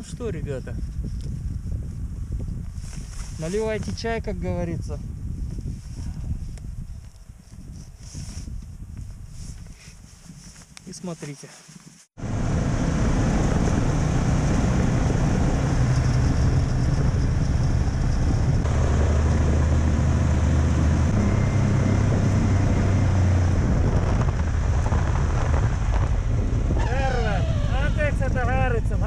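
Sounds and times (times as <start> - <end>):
wind on microphone: 0.0 - 10.9, 11.7 - 29.0.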